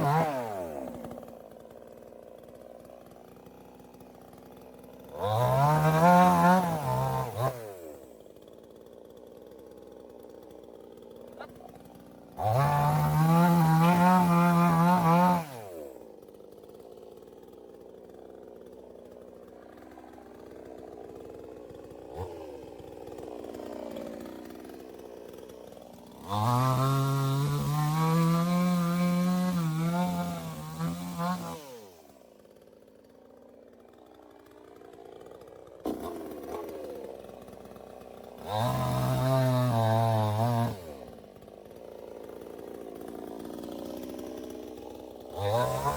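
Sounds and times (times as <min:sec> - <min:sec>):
chainsaw revving and idling: 0:00.0 - 0:45.9.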